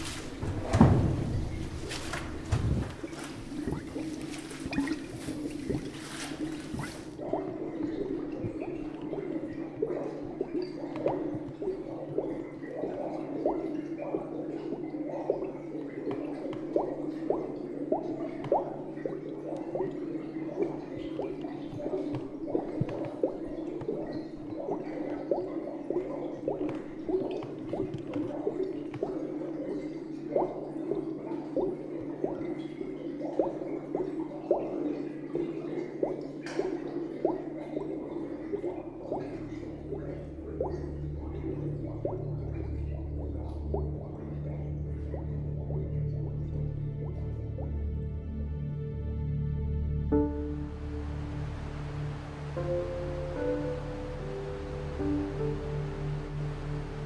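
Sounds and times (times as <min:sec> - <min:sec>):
airlock bubbling: 0:00.0 - 0:48.6, 0:50.2 - 0:57.0.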